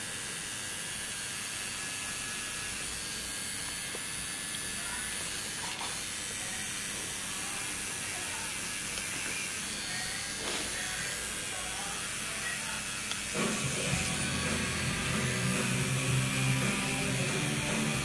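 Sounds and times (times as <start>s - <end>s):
tattoo machine whirring: 0.0s - 18.0s.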